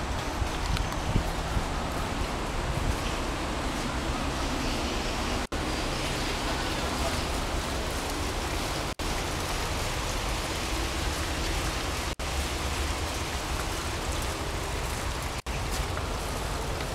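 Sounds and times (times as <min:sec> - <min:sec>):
rushing noise with low rumble: 0:00.0 - 0:16.9.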